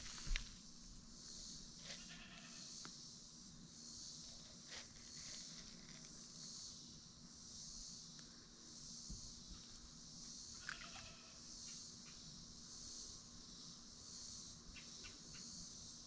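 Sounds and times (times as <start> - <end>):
insects buzzing: 0.0 - 16.0
short insect chirps: 0.0 - 16.0.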